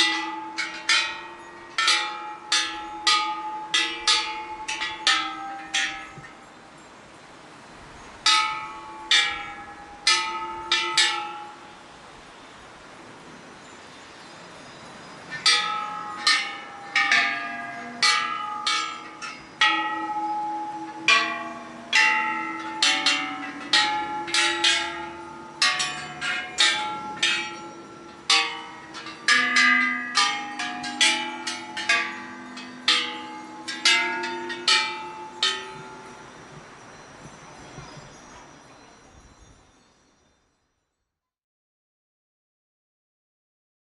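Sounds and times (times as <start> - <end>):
temple bells ringing: 0.0 - 40.3.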